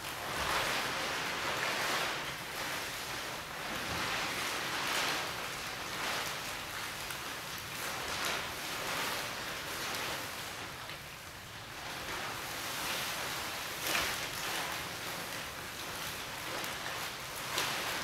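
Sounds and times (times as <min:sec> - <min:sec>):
plastic sheeting rustling: 0:00.0 - 0:18.0.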